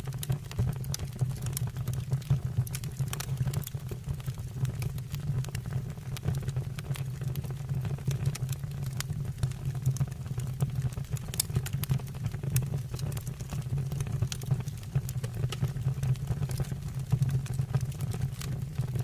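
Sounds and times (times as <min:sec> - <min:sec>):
burning wood crackling and popping: 0:00.0 - 0:19.0
fire flames rumbling: 0:00.0 - 0:19.0.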